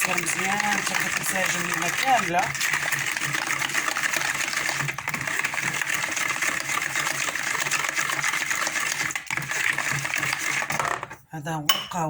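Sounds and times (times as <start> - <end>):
whisk clinking and sloshing in bowl: 0.0 - 12.0.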